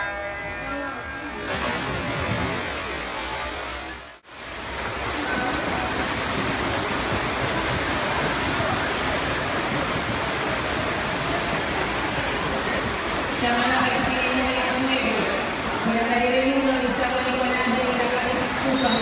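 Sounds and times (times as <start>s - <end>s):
swimmers splashing: 1.2s - 19.0s.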